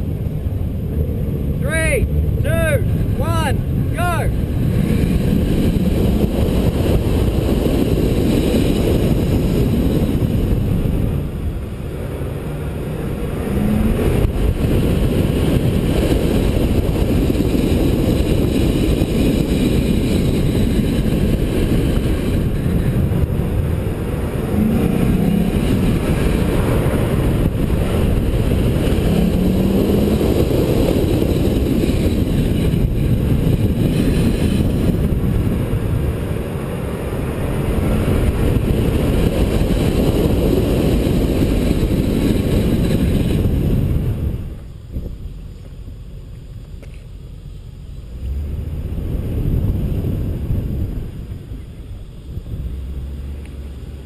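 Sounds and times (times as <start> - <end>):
car engine driven hard: 0.0 - 54.0
road and wind noise: 0.0 - 54.0.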